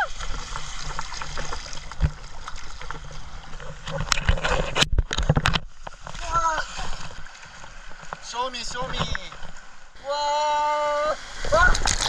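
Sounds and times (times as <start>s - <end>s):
muffled water sloshing and splashing: 0.0s - 10.0s, 11.2s - 12.0s.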